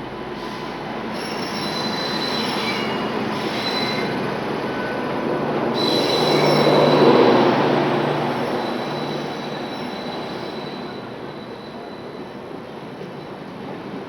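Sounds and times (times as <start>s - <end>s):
passenger train rumbling past: 0.0s - 14.0s
high wheel squeal: 0.4s - 12.5s.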